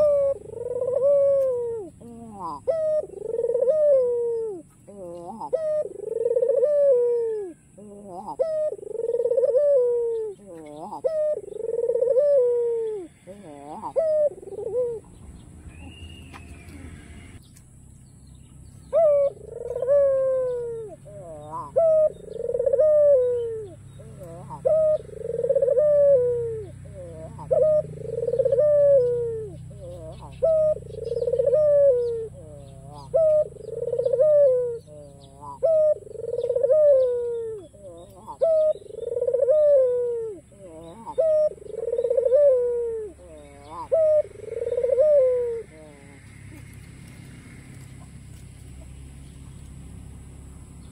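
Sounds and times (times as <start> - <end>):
dove cooing: 0.0 - 17.4, 18.8 - 49.4.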